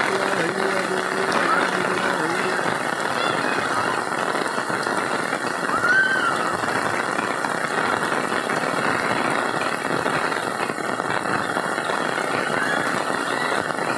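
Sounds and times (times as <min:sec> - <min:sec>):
heavy rain on water: 0:00.0 - 0:13.9.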